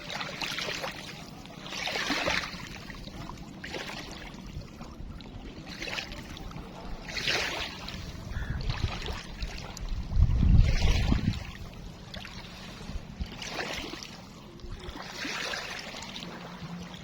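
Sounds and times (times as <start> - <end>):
river water lapping in small waves: 0.0 - 17.0.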